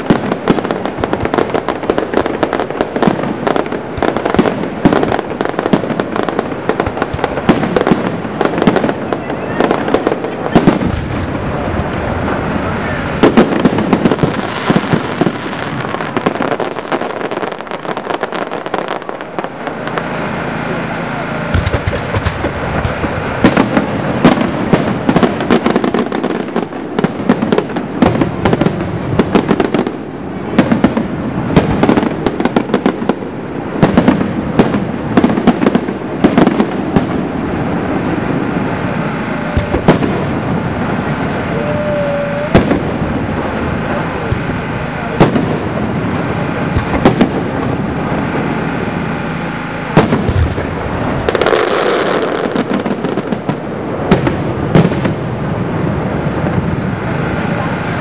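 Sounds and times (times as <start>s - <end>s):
firework shells bursting: 0.0s - 55.2s
firework crackling: 0.0s - 58.0s.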